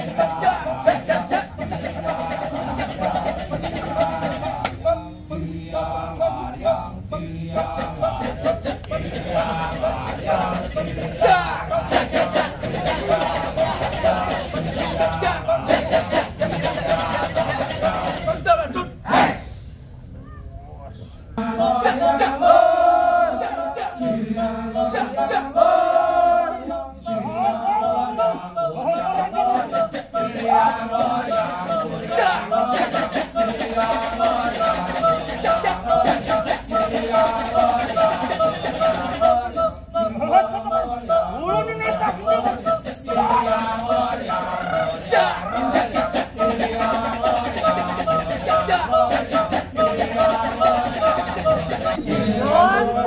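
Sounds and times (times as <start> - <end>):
low sustained vocal hum: 0.0 - 18.5, 20.9 - 53.0
men chanting in unison: 0.0 - 19.6, 21.3 - 53.0.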